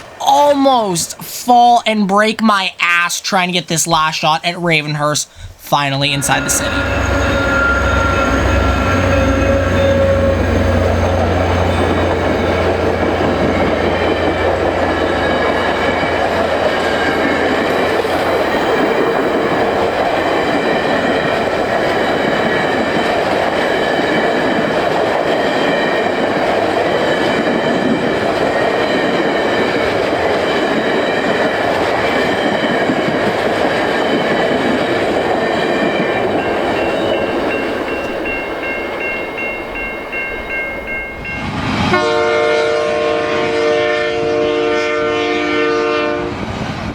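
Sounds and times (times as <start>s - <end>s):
locomotive engine hum: 5.2s - 46.1s
train wheels rumbling on rail: 6.2s - 46.9s.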